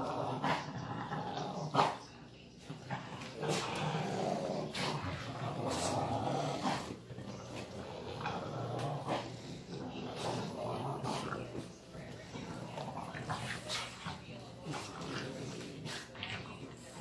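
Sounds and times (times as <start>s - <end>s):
dog growling in play: 0.0s - 17.0s.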